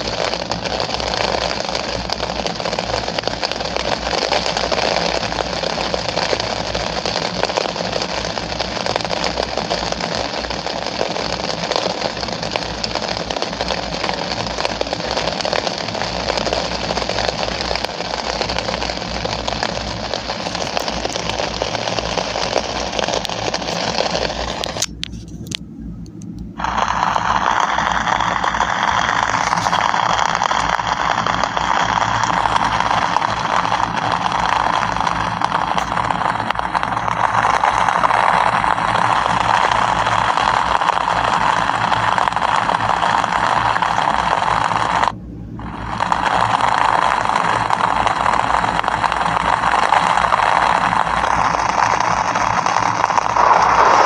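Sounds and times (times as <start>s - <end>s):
rain hissing: 0.0s - 25.6s, 26.5s - 54.0s.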